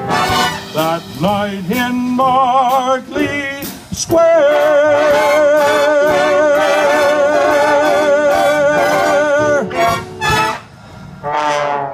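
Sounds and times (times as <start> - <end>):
big band holding a chord: 0.0 - 11.9.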